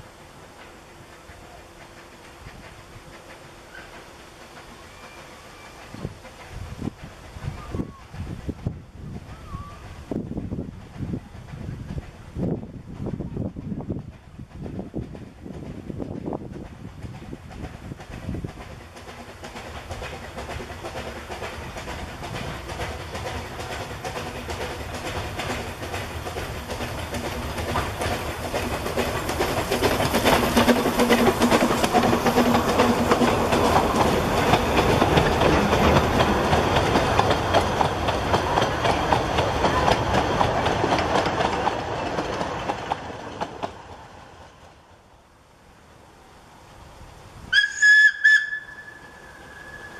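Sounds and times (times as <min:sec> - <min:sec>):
steam locomotive passing: 0:00.0 - 0:49.9
train wheels clicking on rails: 0:00.0 - 0:49.9.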